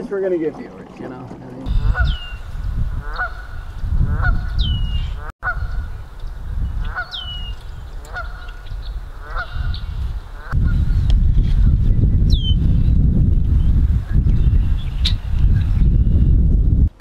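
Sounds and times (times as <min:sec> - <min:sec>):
wind rumble on microphone: 0:01.6 - 0:17.0.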